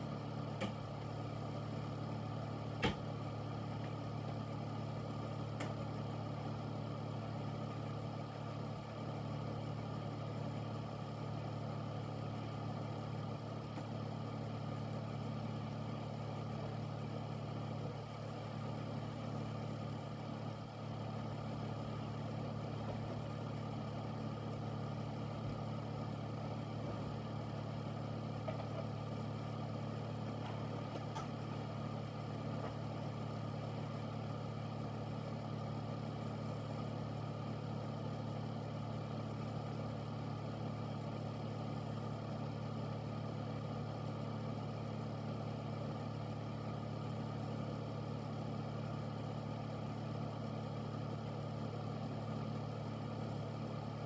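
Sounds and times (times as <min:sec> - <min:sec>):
air filter fan running: 0:00.0 - 0:54.0.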